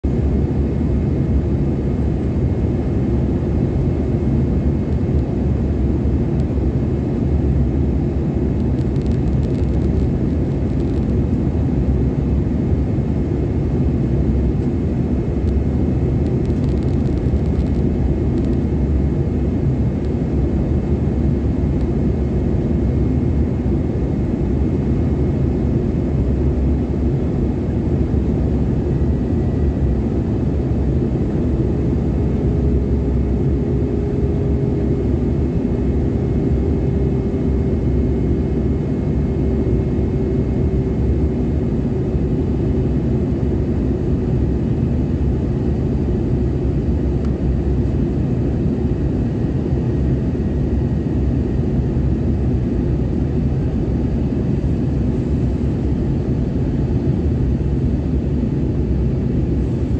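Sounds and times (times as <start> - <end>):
airliner engines droning: 0.0 - 59.9.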